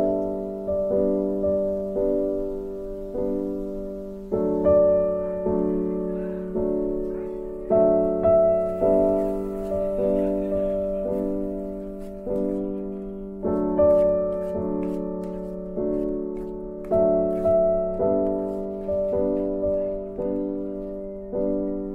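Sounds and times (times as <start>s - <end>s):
slow piano chords: 0.0s - 21.9s.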